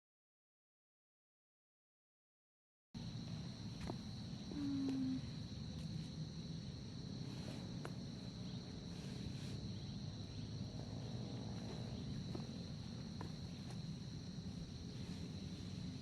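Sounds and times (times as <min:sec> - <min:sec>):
insects droning: 0:03.0 - 0:16.0.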